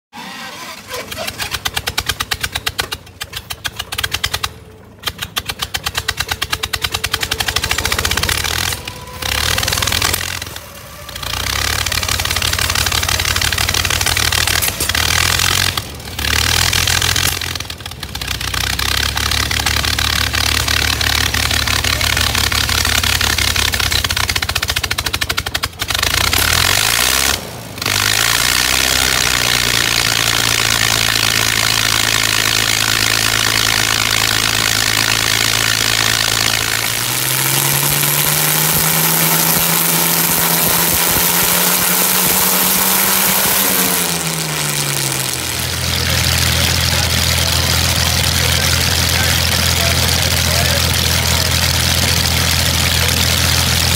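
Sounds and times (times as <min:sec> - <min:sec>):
engine driving propeller: 0:00.1 - 0:53.9.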